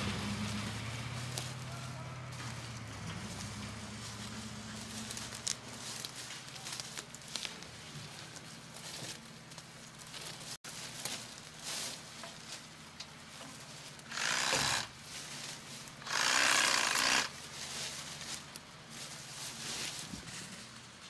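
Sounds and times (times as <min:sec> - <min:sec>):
vines rustling and tearing: 0:00.0 - 0:21.0.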